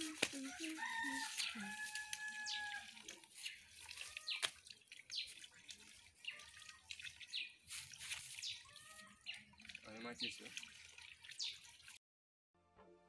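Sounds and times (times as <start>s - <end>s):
water dripping and trickling: 0.0s - 12.0s.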